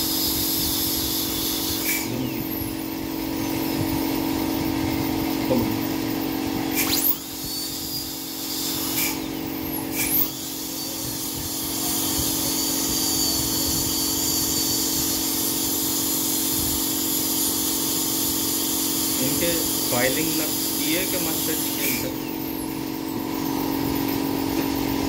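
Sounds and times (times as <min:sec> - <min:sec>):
dental drill whining: 0:00.0 - 0:25.0.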